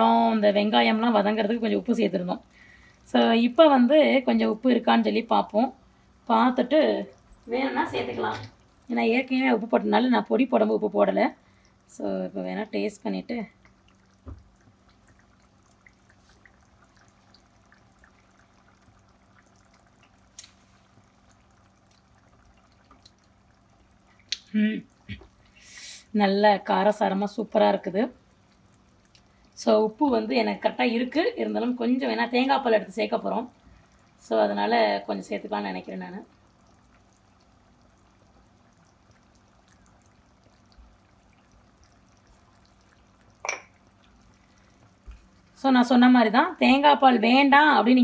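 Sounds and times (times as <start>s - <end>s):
low steady hum: 0.0s - 48.0s
curry simmering pops: 3.4s - 48.0s.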